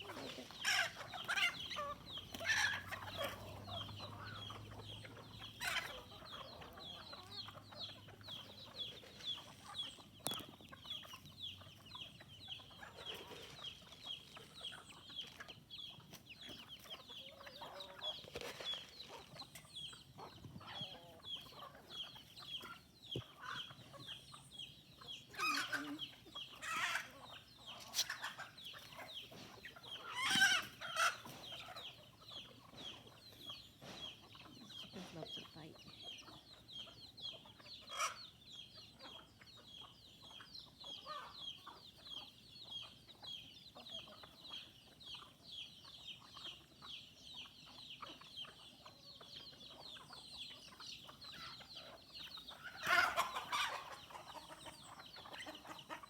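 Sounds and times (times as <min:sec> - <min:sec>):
chickens clucking: 0:00.0 - 0:56.0
chickens squawking: 0:00.0 - 0:56.0.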